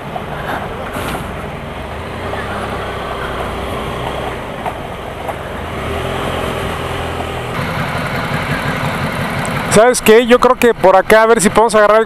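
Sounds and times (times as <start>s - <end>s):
road noise: 0.0s - 12.0s
motorcycle engine running: 0.7s - 10.8s.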